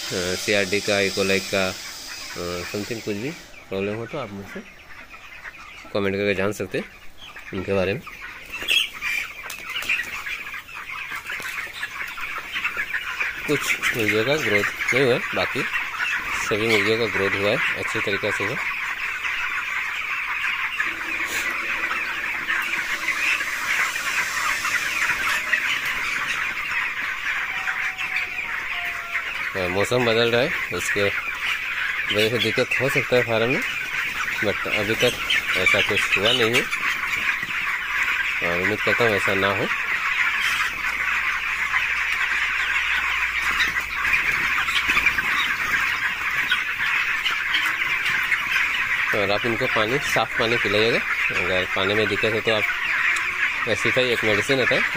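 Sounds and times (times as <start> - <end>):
flock of chickens calling: 0.0 - 54.9.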